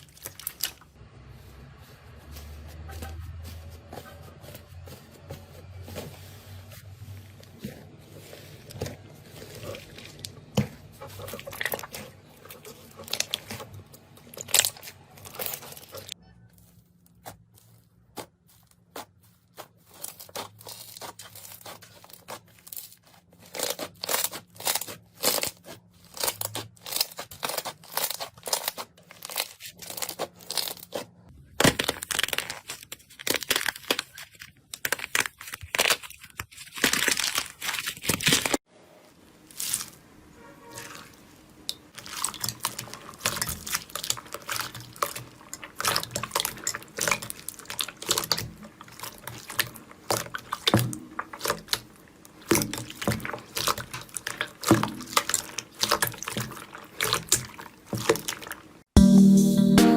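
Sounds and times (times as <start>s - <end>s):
slime crackling and popping: 0.0s - 1.0s, 7.6s - 16.2s, 18.5s - 38.6s, 39.4s - 58.8s.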